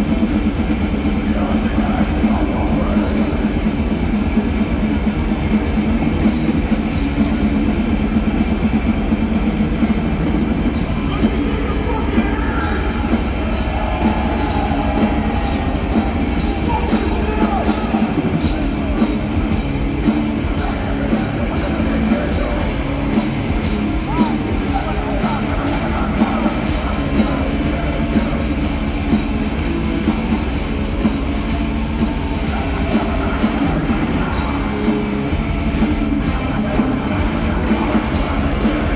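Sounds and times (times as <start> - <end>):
distorted electric guitars: 0.0 - 38.9
pounding drum kit: 0.0 - 38.9
rock vocals: 0.0 - 38.9.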